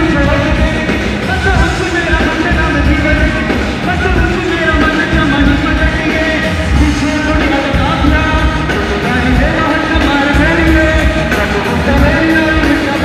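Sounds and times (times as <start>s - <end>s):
heavy pulsing bass beat: 0.0s - 13.0s
person singing: 0.0s - 13.0s.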